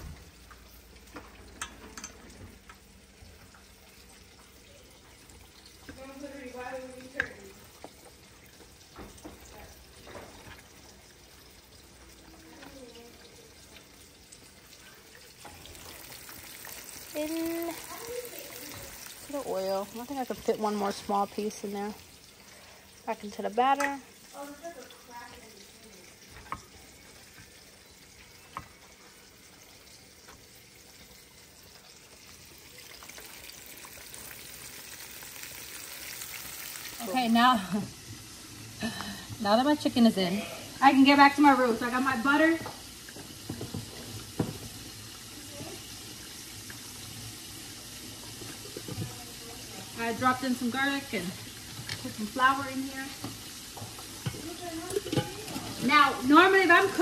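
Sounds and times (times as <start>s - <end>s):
chicken frying in hot oil: 0.0s - 57.0s.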